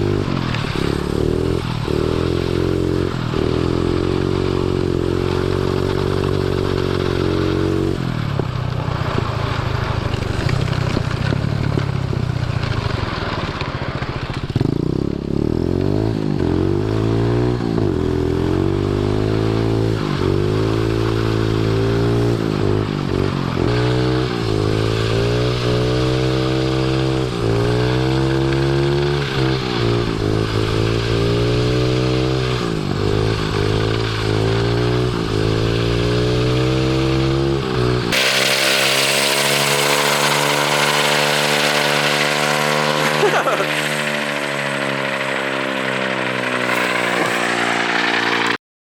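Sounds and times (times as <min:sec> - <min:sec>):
small motorbike engine revving: 0:00.0 - 0:48.6.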